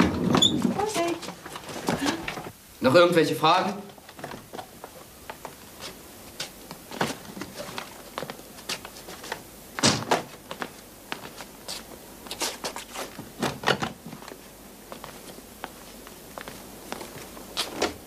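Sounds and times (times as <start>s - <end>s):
people moving about a room: 0.0s - 2.6s, 3.6s - 18.0s.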